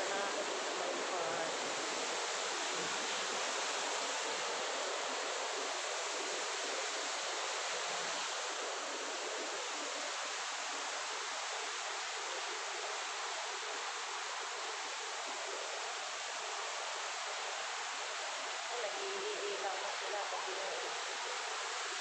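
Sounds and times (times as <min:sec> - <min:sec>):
waterfall rushing into pond: 0:00.0 - 0:22.0.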